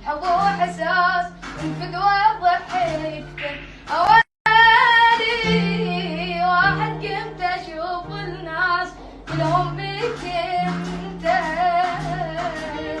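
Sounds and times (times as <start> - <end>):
boy singing in high voice: 0.0 - 13.0.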